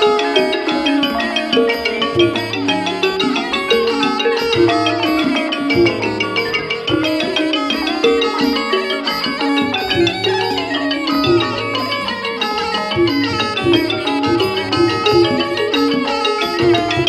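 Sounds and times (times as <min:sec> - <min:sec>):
steady drum pattern: 0:00.0 - 0:17.0
xylophone-like mallet notes: 0:00.0 - 0:17.0.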